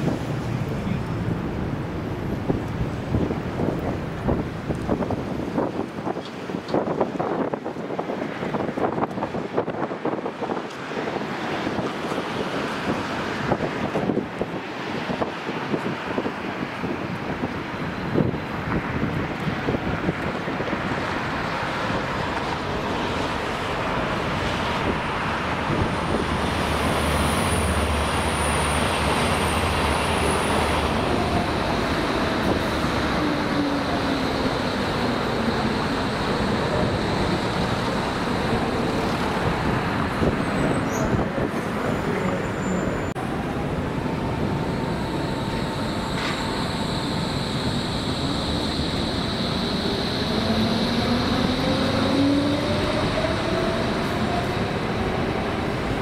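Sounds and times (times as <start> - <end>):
rail rumble: 0.0 - 56.0
traffic noise: 0.0 - 56.0.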